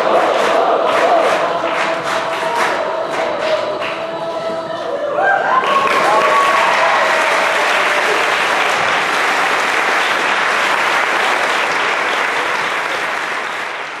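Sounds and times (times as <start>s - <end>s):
audience clapping: 0.0s - 4.1s, 5.5s - 14.0s.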